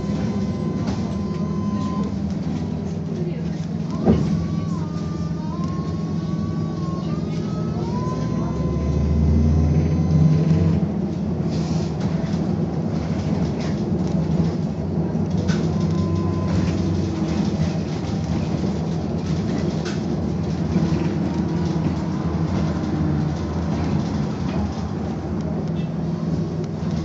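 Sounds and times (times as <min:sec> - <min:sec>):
trolleybus running hum: 0:00.0 - 0:27.0.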